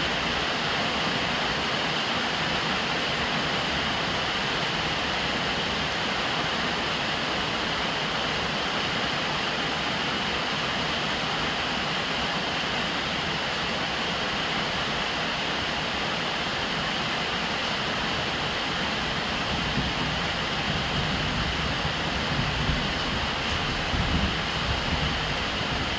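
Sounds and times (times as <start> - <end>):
heavy rain on a roof: 0.0 - 25.9.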